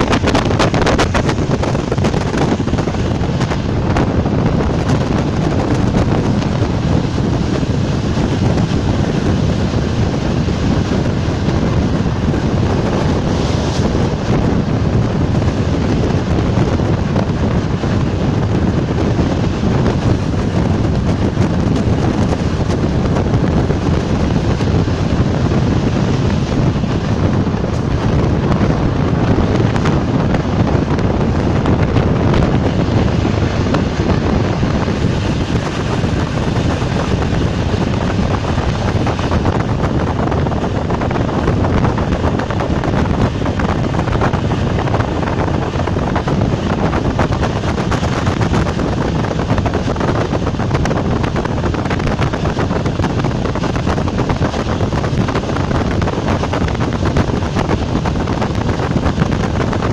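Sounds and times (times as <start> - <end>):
train wheel and wind rush: 0.0 - 59.9.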